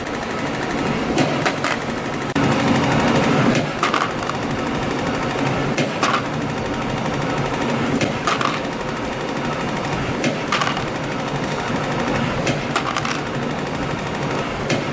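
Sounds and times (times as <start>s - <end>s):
spring coiling machine running: 0.0s - 14.9s.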